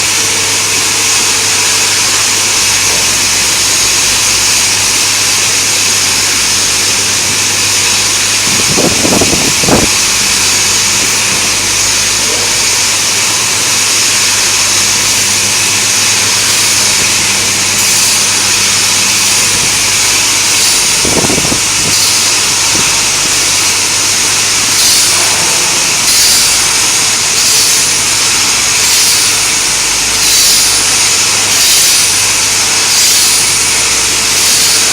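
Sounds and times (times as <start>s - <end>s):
high hiss of grinding: 0.0s - 34.9s
motor hum: 0.0s - 34.9s.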